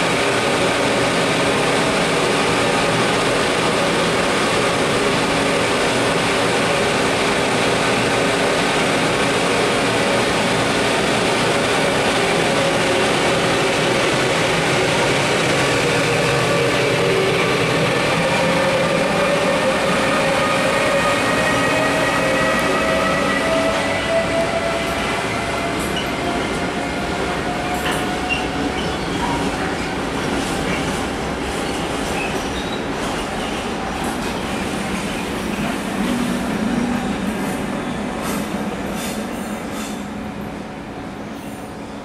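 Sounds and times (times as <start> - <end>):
electric locomotive humming and whining: 0.0 - 42.0.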